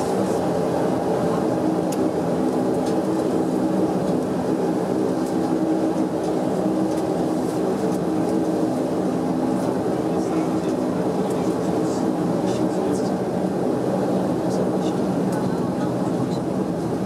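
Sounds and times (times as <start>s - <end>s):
turboprop drone inside cabin: 0.0s - 17.0s.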